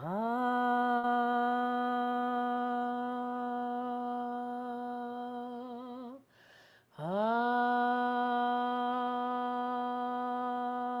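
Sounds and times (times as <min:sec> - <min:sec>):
woman singing a long tone: 0:00.0 - 0:06.2, 0:07.0 - 0:11.0.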